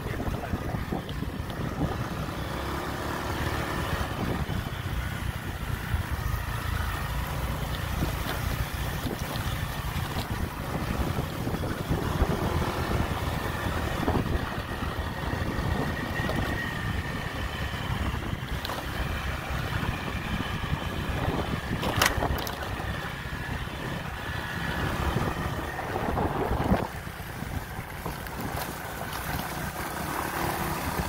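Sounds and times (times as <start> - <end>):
motorbike engine running: 0.0 - 31.0
wind rushing over microphone: 0.0 - 31.0.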